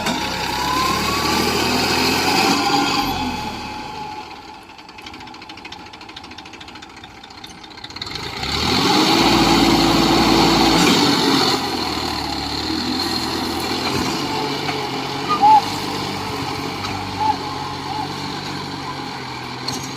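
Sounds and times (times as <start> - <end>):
tractor engine revving: 0.0 - 19.9.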